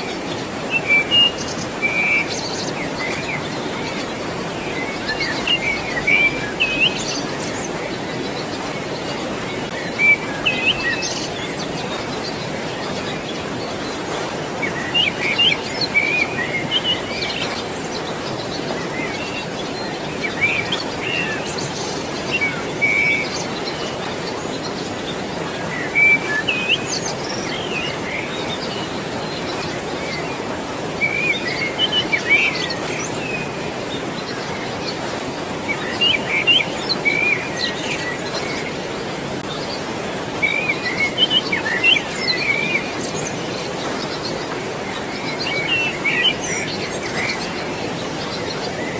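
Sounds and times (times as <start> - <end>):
birds chirping: 0.0 - 48.9
flowing water rushing: 0.0 - 48.9.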